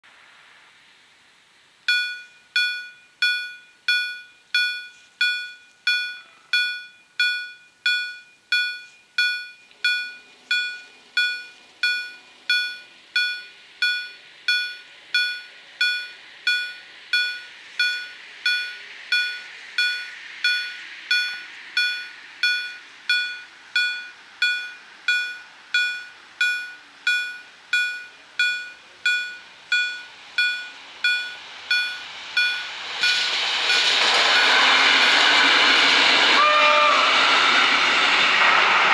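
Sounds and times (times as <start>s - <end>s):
level crossing bell ringing: 1.9s - 33.8s.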